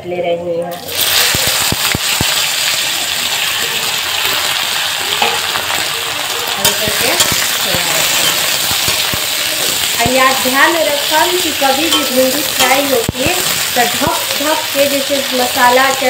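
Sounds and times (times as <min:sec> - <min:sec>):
vegetables sizzling in hot oil: 0:00.8 - 0:16.0.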